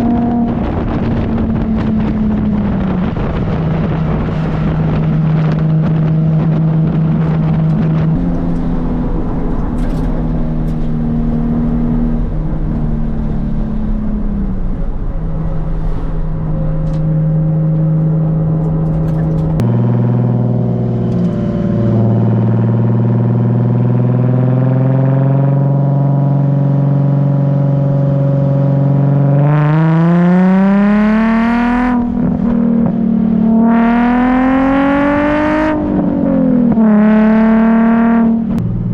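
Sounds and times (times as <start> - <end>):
car engine revving up: 0.0 - 38.9
car engine running: 0.0 - 38.9.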